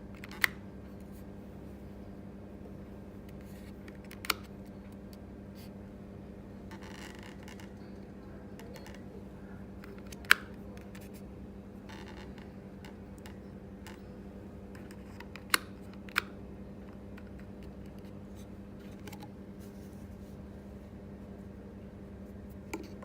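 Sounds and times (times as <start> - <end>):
low hum and hiss: 0.0 - 23.0.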